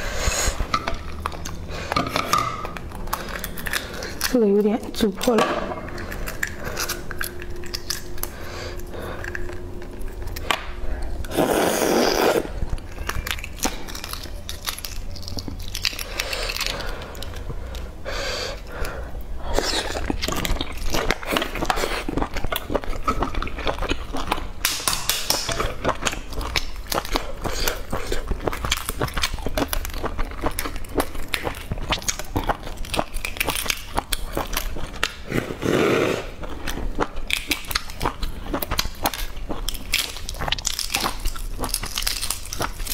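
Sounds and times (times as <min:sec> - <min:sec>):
eggshells crackling: 0:00.0 - 0:35.3, 0:36.2 - 0:42.9
close-up chewing: 0:00.0 - 0:42.9.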